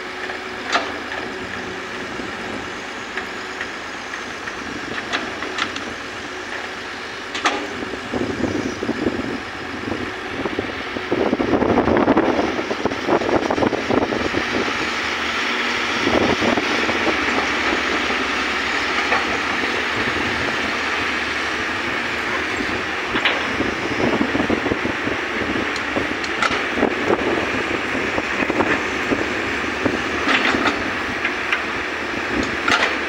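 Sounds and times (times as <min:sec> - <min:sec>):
excavator diesel engine under load: 0:00.0 - 0:33.0.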